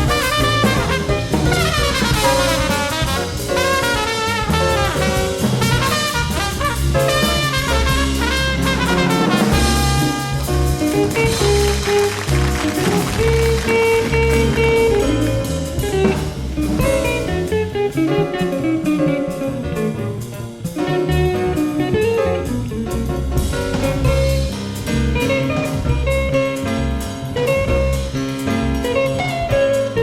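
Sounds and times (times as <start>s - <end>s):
drum kit: 0.0s - 30.0s
electric guitar playing jazz lines: 0.0s - 30.0s
walking bass: 0.0s - 30.0s.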